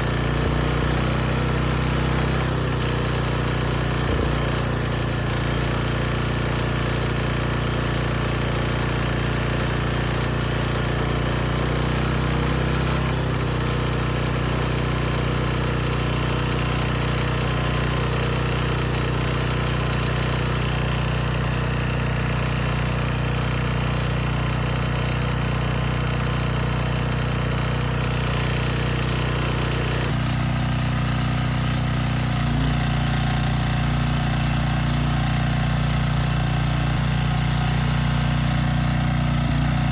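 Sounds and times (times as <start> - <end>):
engine knocking: 0.0 - 39.9
generator engine running: 0.0 - 39.9.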